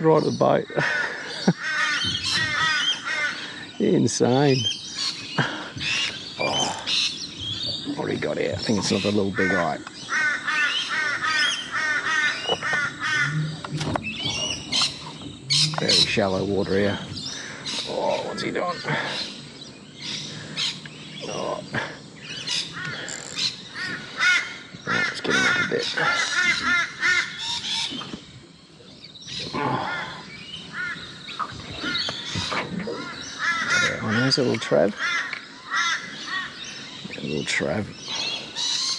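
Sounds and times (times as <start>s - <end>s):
bird calling: 0.0s - 38.9s.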